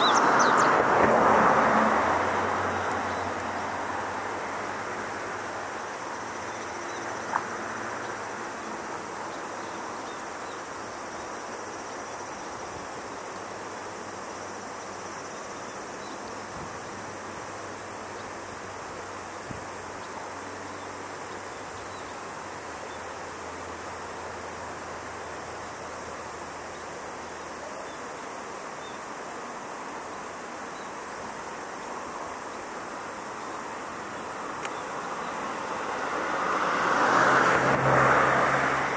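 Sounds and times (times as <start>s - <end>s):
outdoor background hiss: 0.0s - 38.9s.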